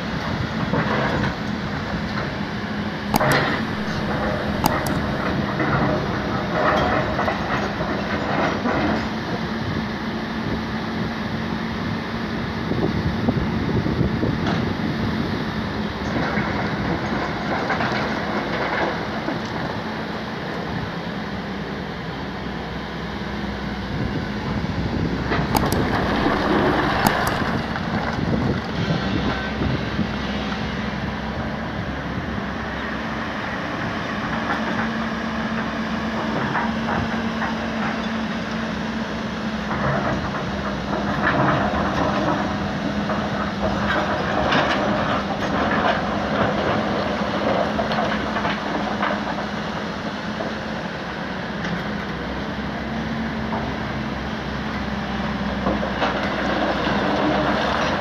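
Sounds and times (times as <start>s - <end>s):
vehicle running with low hum: 0.0s - 58.0s.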